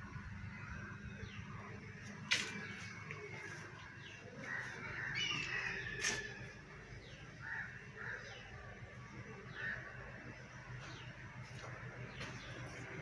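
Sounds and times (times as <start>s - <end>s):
steady low hum: 0.0s - 13.0s
birds calling: 0.3s - 13.0s.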